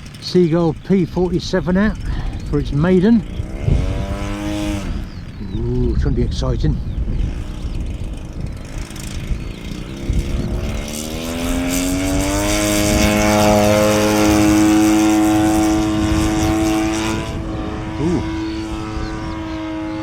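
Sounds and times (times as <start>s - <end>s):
model plane engine and propeller: 0.0s - 20.0s.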